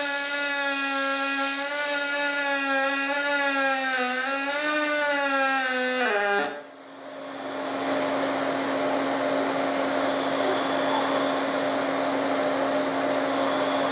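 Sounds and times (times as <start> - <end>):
cooling fan whirring: 0.0 - 13.9.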